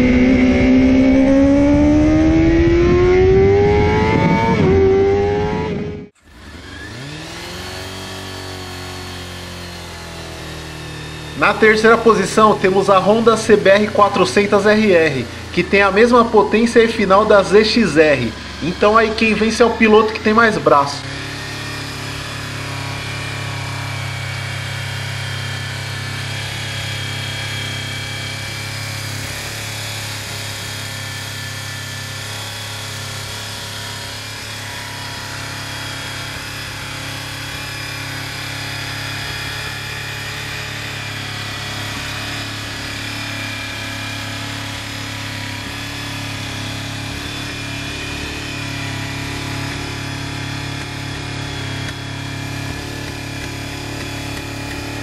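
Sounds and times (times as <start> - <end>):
motorcycle engine running steadily: 0.0 - 55.0.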